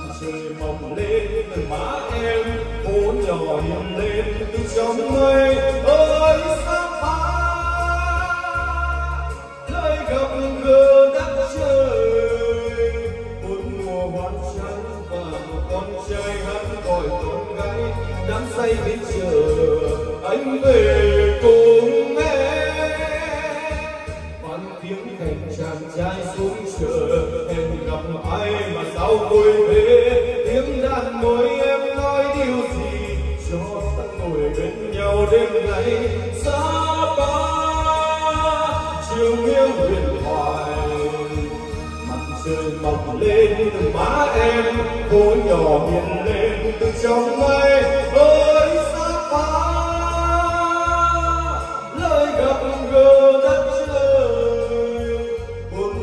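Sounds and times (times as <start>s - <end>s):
bass beat: 0.0s - 56.0s
singing voice: 0.0s - 56.0s.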